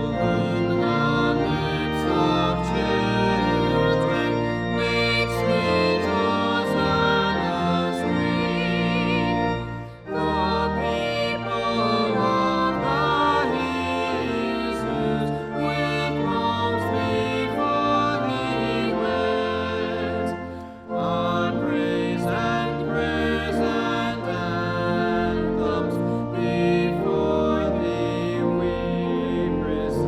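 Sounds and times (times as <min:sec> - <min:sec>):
music with sustained chords: 0:00.0 - 0:30.0.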